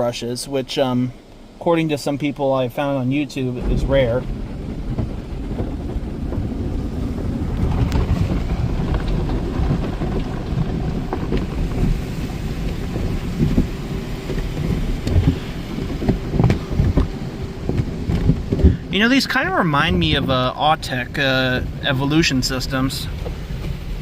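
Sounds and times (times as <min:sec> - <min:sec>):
car wash cloth rubbing: 0:02.0 - 0:24.0.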